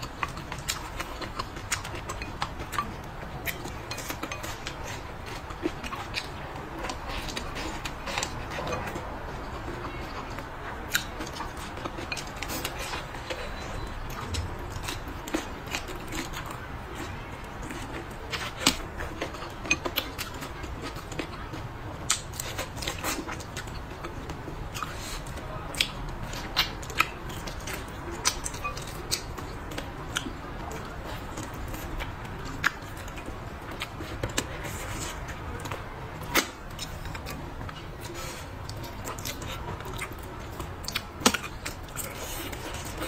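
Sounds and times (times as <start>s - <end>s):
chewing and lip smacks: 0.0s - 43.0s.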